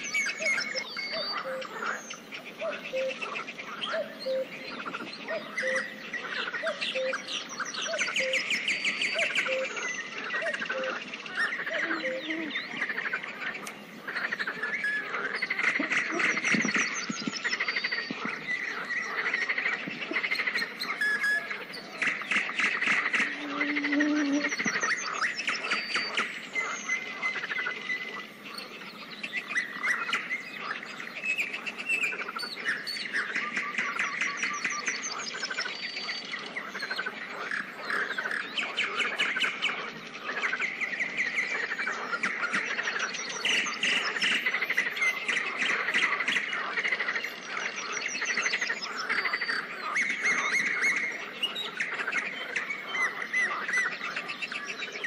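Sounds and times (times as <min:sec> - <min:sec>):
birds calling: 0:00.0 - 0:55.0
frogs calling: 0:00.0 - 0:55.0.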